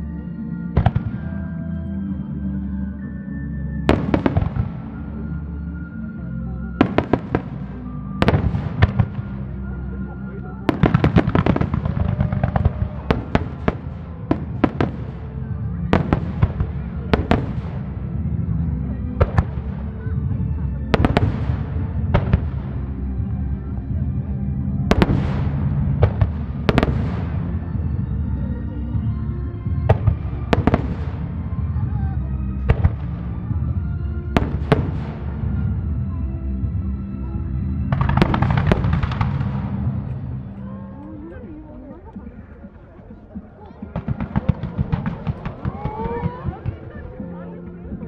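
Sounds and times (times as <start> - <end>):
music playing: 0.0 - 48.0.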